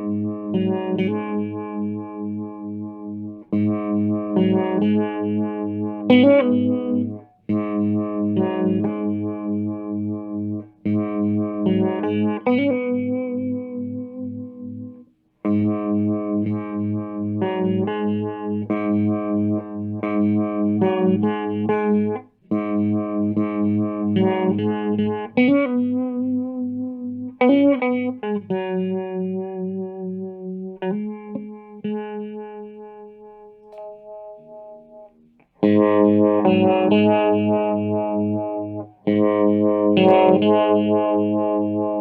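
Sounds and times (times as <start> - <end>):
overdriven electric guitar strumming: 0.0 - 42.0.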